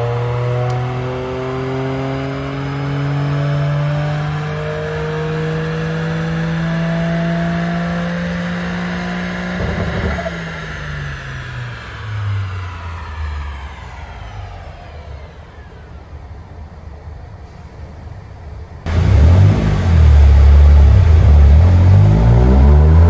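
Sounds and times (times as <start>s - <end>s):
turbocharged car engine revving: 0.0s - 16.5s, 18.9s - 23.0s.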